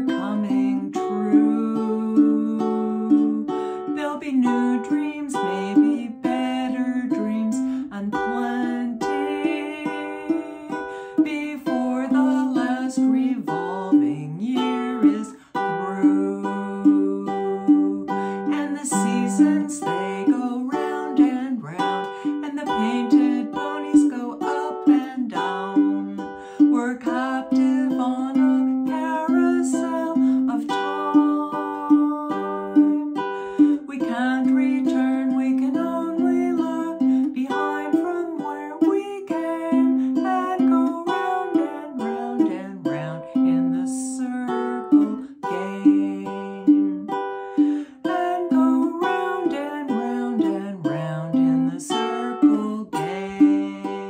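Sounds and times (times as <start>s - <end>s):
ukulele strumming: 0.0s - 54.0s
woman singing folk song: 0.0s - 54.0s.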